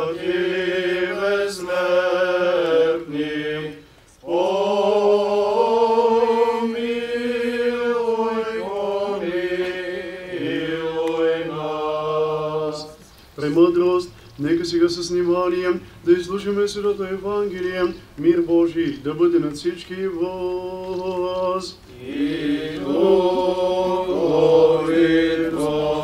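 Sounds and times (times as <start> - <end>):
men chanting a hymn: 0.0 - 26.0.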